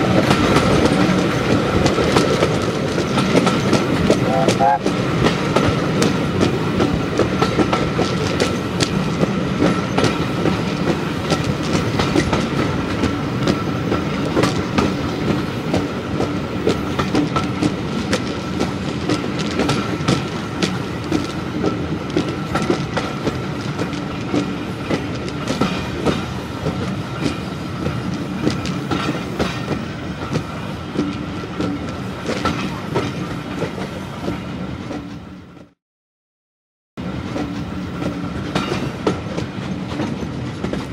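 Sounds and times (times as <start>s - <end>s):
rumble of running train: 0.0s - 35.8s, 37.0s - 40.9s
wheels clicking over rail joints: 0.1s - 33.9s.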